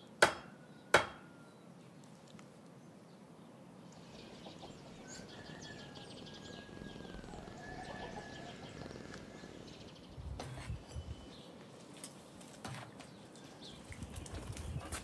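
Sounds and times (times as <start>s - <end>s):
birds chirping: 0.6s - 15.0s.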